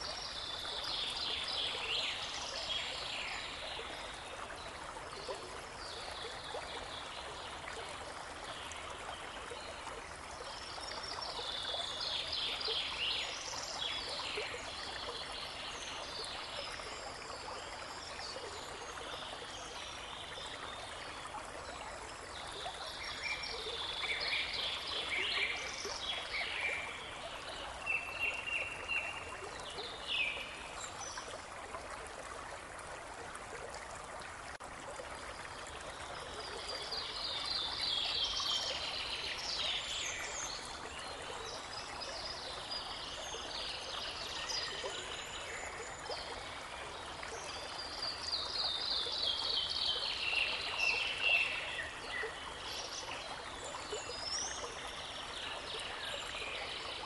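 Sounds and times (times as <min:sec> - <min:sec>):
brook babbling: 0:00.0 - 0:57.0.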